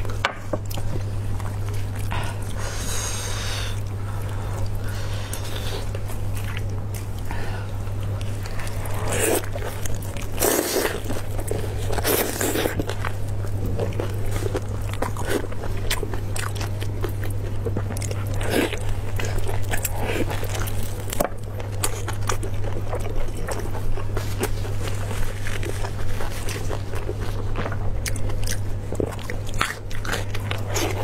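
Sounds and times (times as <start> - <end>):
biting and chewing meat: 0.0 - 31.0
steady low hum: 0.0 - 31.0.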